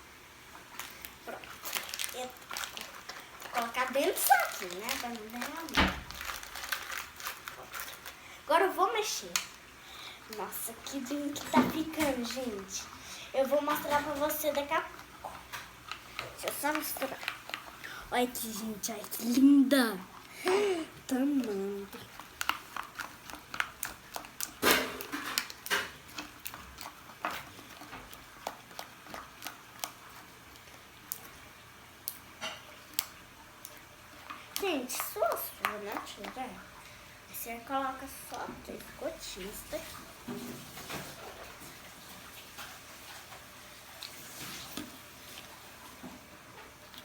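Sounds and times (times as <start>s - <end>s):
wet slime stirring and scraping: 0.5s - 47.0s.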